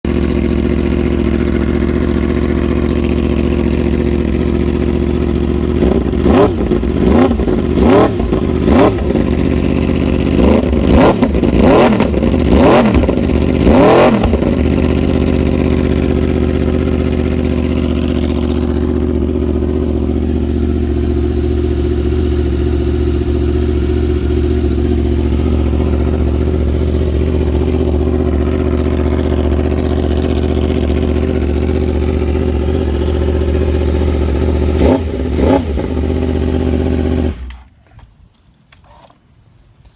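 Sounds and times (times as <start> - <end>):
motorcycle engine idling and revving: 0.0 - 37.8.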